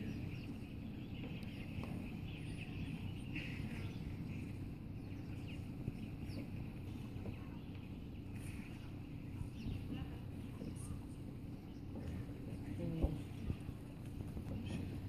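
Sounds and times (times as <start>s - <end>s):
faint bird chirps: 0.0s - 13.8s.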